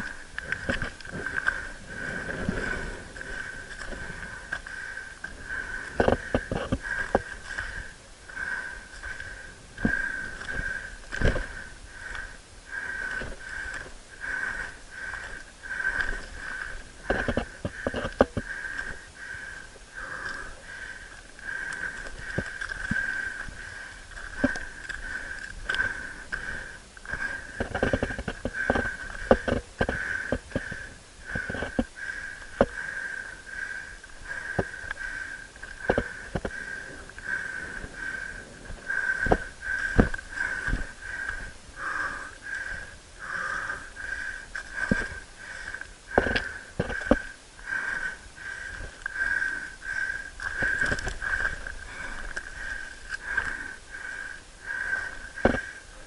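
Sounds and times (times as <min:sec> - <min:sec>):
person breathing hard: 0:00.0 - 0:56.0.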